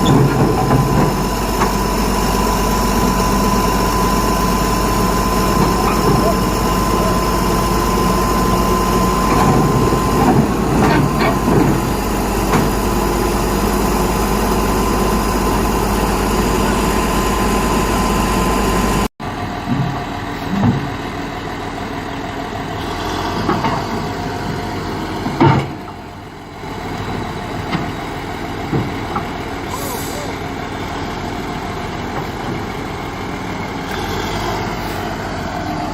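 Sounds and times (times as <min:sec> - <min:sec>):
diesel engines running: 0:00.0 - 0:35.9.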